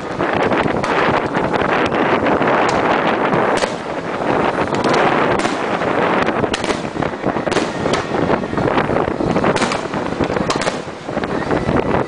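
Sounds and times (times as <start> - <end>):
firework bangs and crackles: 0.0 - 12.0
noisy rumble: 0.0 - 12.0.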